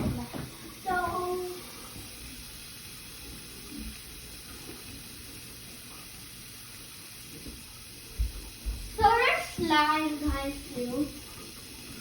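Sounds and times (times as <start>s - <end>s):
water fizzing and bubbling: 0.0s - 12.0s.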